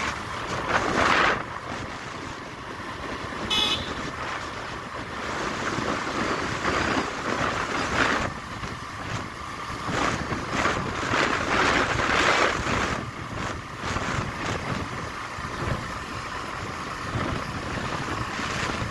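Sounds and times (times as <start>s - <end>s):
road and engine rumble: 0.0s - 18.9s
wind buffeting microphone: 0.0s - 18.9s.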